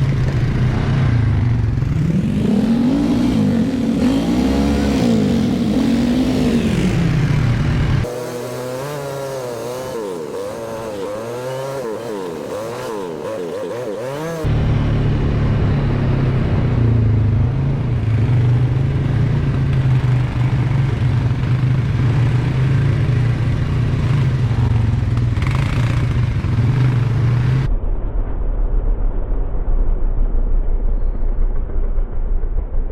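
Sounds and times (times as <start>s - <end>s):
atv engines running: 0.0s - 27.7s.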